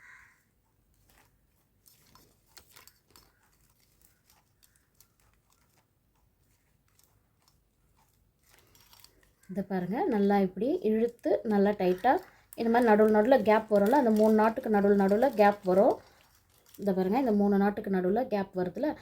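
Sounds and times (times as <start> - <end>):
plastic wire crinkling and clicking: 0.7 - 17.8.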